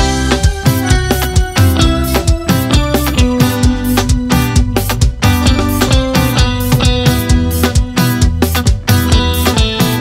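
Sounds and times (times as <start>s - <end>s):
guitar: 0.0s - 10.0s
steady drum beat: 0.0s - 10.0s.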